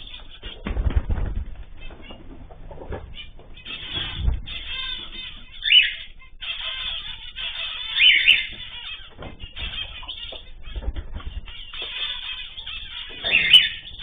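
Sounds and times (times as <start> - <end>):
cage birds chirping: 0.0 - 14.0
loud bird calls: 1.7 - 14.0.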